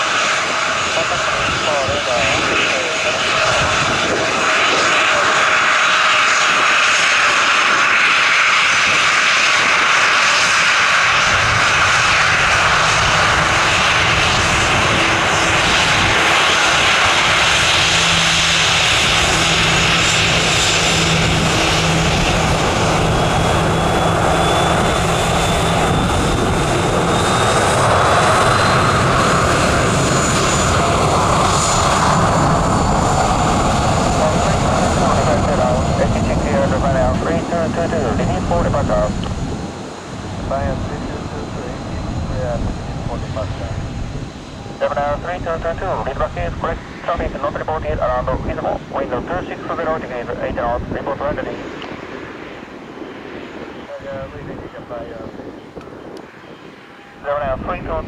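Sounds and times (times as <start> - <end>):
turboprop engines at takeoff power: 0.0 - 58.0.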